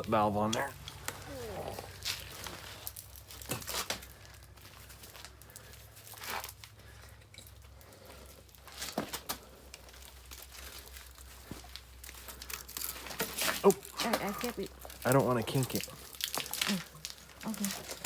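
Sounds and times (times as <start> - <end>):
plastic pipe rustling and crinkling: 0.0 - 18.0.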